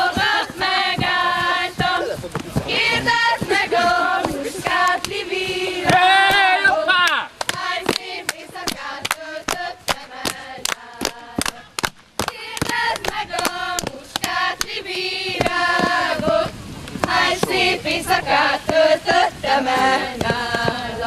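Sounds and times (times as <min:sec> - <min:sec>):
women singing folk song: 0:00.0 - 0:21.0.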